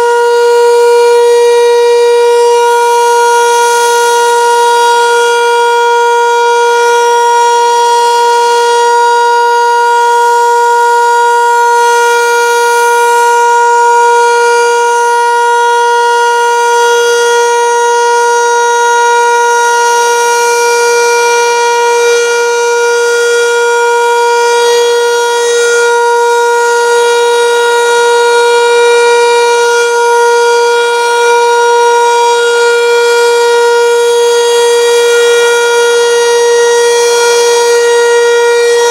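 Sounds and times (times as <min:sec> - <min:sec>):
motor siren steady tone: 0:00.0 - 0:38.9.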